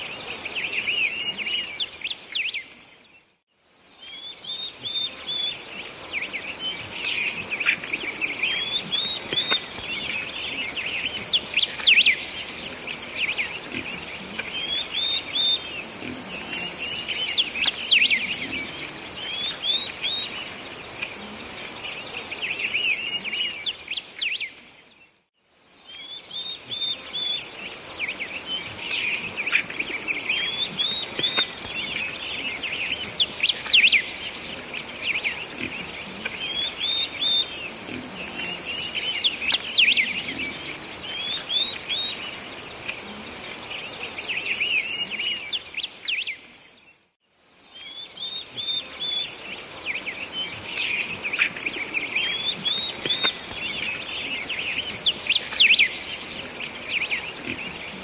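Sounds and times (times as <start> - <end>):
light hiss: 0.0 - 58.0
songbirds chirping: 0.0 - 58.0.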